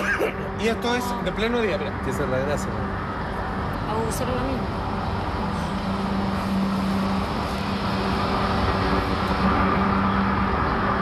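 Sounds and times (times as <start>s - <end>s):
city traffic noise: 0.0s - 11.0s
low drone: 0.0s - 11.0s.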